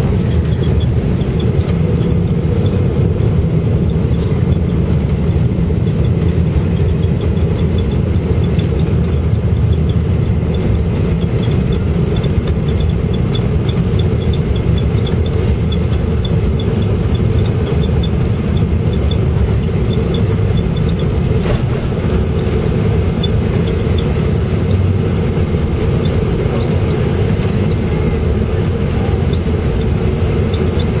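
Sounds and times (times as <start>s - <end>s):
engine and runway wheel rumble: 0.0s - 31.0s.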